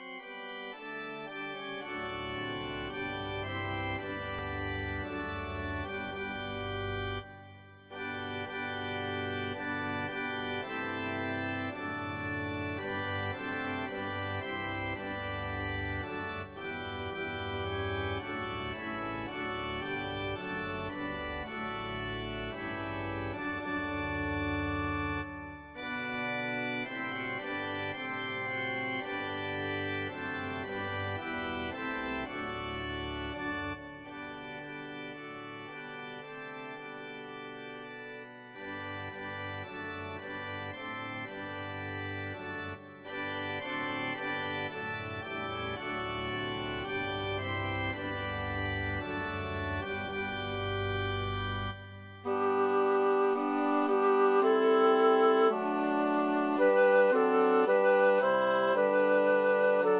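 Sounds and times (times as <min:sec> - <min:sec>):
instrumental christmas music: 0:00.0 - 0:59.9.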